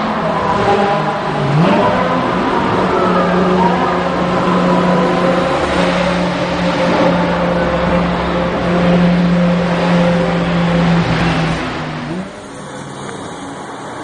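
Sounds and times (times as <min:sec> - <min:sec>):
car engine running in tunnel: 0:00.0 - 0:14.0.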